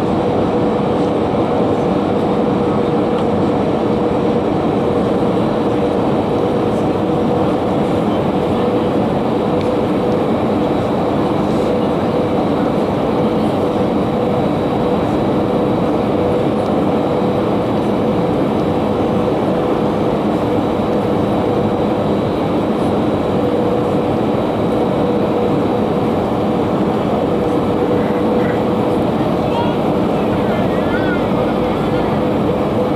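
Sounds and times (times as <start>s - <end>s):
airliner cabin noise: 0.0s - 32.9s
constant hum: 0.0s - 32.9s.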